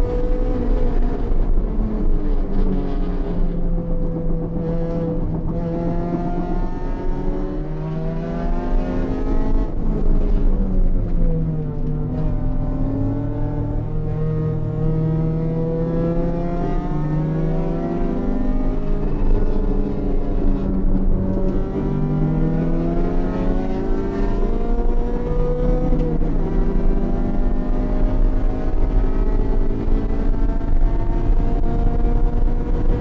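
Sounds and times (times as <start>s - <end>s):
race car engine revving: 0.0s - 33.0s
road and wind rumble: 0.0s - 33.0s.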